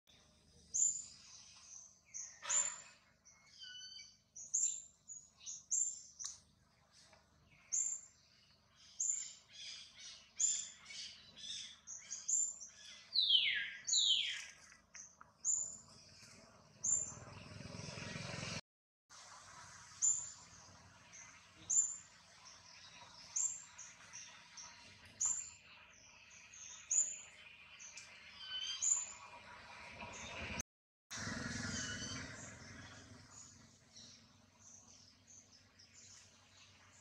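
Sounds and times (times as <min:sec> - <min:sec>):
birds chirping: 0:00.1 - 0:18.5, 0:20.0 - 0:30.6, 0:31.3 - 0:37.0.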